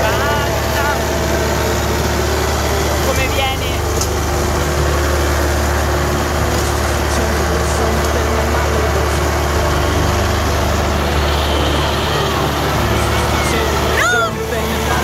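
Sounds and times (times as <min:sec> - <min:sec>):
tractor diesel engine humming: 0:00.0 - 0:15.0.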